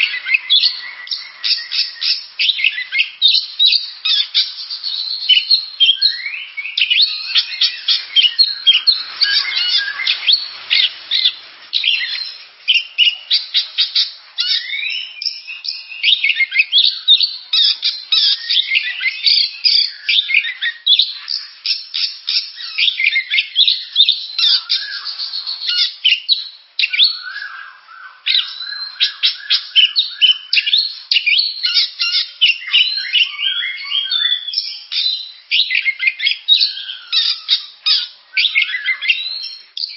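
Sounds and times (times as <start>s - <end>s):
bird singing varied chirps: 0.0s - 39.9s.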